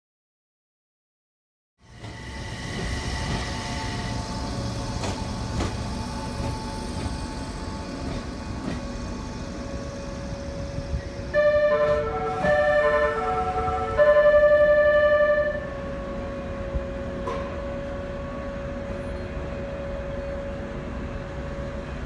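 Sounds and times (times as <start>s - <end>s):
train rumbling: 1.8s - 22.0s.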